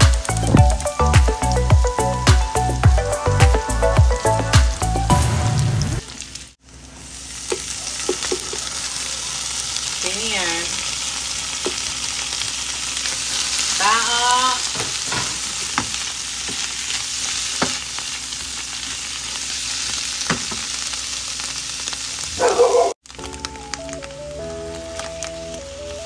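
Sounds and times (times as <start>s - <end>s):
mushrooms sizzling in a pan: 0.0s - 26.0s.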